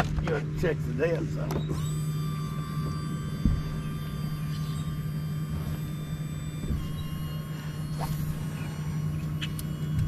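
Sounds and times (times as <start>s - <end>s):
boat motor humming and whining: 0.0s - 10.0s.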